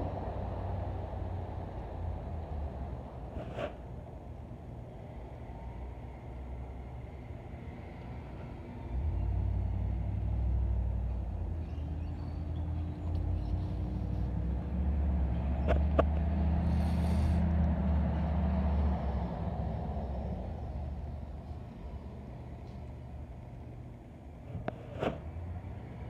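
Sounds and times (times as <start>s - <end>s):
passing road traffic rumble: 0.0s - 26.0s.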